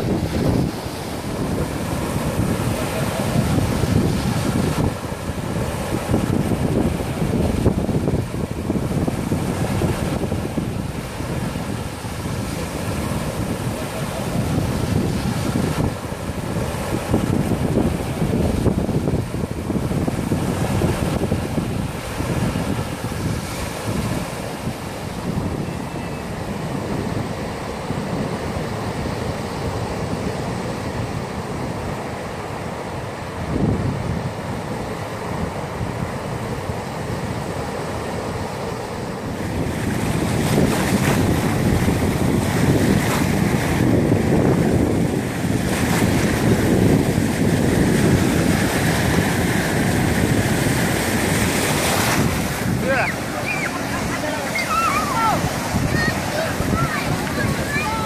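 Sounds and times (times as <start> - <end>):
small waves washing on sand: 0.0 - 58.0
wind buffeting microphone: 0.0 - 58.0.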